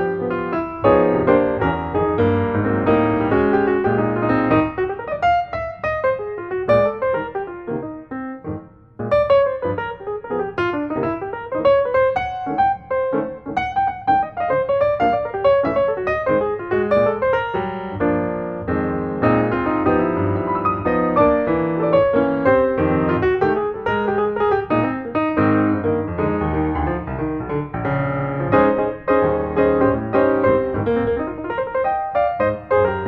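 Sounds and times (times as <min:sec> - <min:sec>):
piano music with quick notes: 0:00.0 - 0:33.0.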